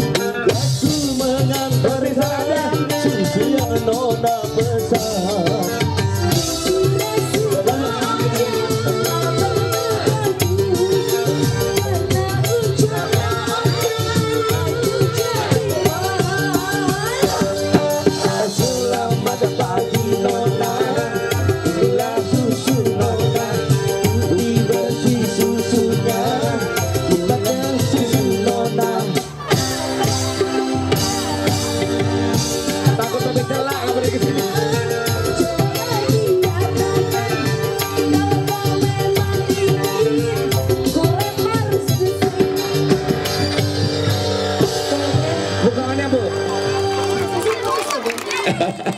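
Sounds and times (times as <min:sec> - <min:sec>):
person singing into microphone: 0:00.0 - 0:47.3
keyboard and guitar: 0:00.0 - 0:48.9
live band music over loudspeakers: 0:00.0 - 0:48.9
steady drum beat: 0:00.0 - 0:48.9.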